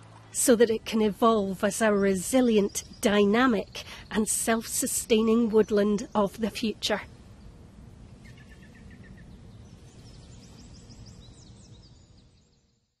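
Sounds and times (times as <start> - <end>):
birds chirping: 0.4 - 12.8.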